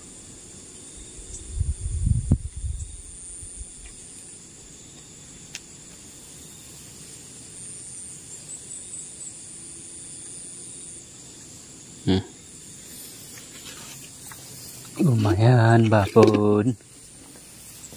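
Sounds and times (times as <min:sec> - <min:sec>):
faint background hiss: 0:00.0 - 0:17.9
insect chorus: 0:00.0 - 0:17.9.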